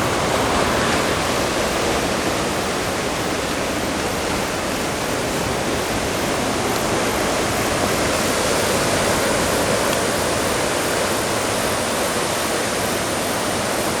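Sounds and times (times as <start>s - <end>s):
rough sea surf rushing: 0.0s - 14.0s.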